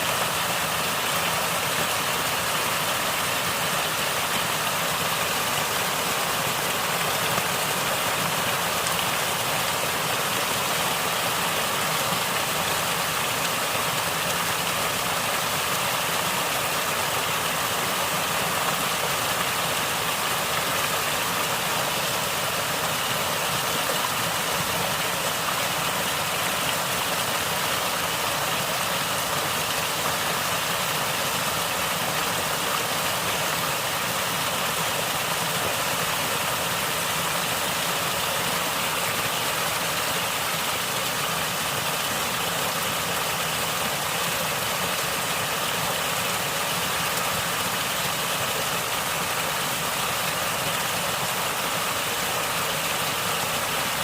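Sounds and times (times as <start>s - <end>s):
stream flowing and gurgling: 0.0s - 54.0s.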